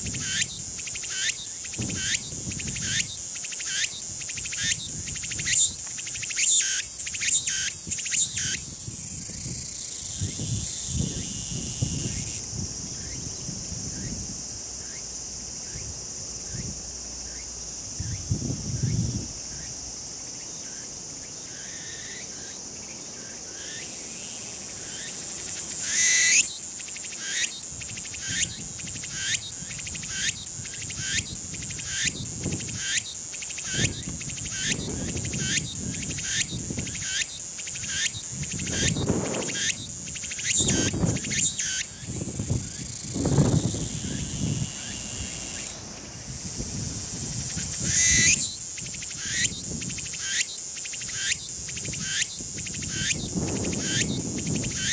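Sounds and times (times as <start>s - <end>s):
cicada singing: 0.0s - 54.9s.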